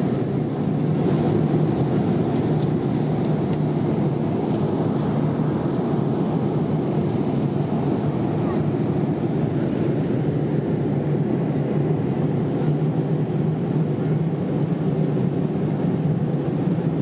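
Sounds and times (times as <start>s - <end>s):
airliner cabin engine rush: 0.0s - 17.0s
constant low hum: 0.0s - 17.0s.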